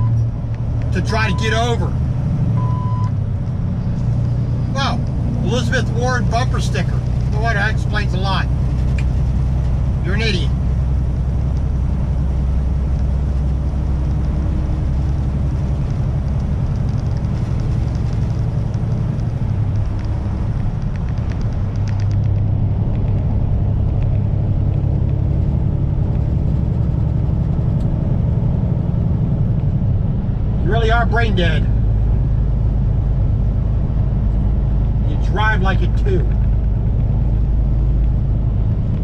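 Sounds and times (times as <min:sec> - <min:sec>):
road noise: 0:00.0 - 0:39.0
truck diesel engine drone: 0:00.0 - 0:39.0.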